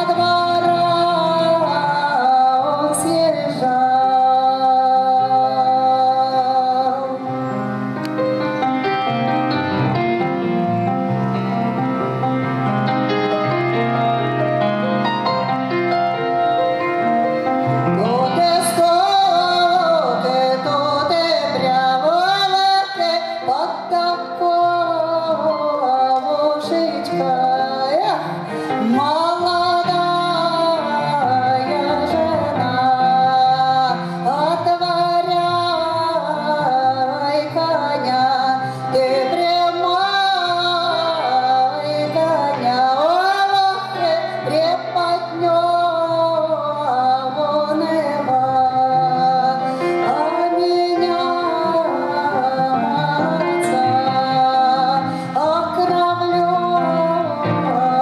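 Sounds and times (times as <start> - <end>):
woman singing into microphone: 0.0 - 9.9, 17.7 - 58.0
grand piano: 0.0 - 58.0.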